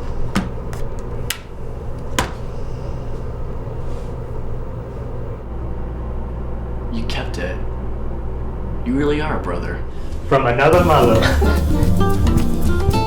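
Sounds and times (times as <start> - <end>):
low hum of room noise: 0.0 - 12.1.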